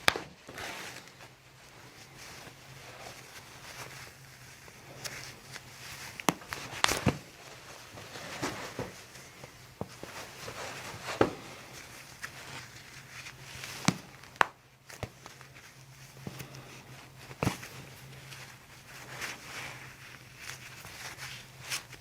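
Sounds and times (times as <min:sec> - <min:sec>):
soft handling rustle: 0:00.0 - 0:22.0.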